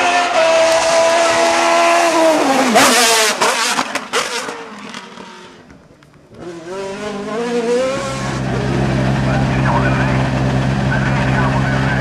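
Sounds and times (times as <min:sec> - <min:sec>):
race car engine accelerating: 0:00.0 - 0:05.7, 0:06.3 - 0:12.0
race car engine passing at high revs: 0:00.0 - 0:05.7, 0:06.3 - 0:12.0.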